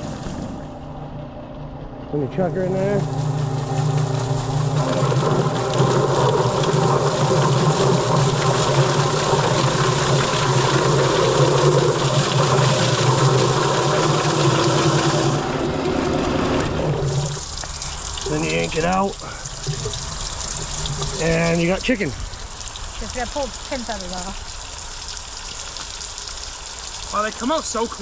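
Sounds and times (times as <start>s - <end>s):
motor hum: 0.0s - 28.0s
rattling slapping churn: 1.4s - 24.2s.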